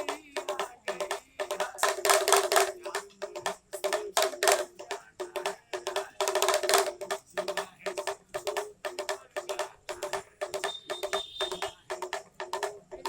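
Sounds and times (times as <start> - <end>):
hand drum rolls: 0.0 - 13.0.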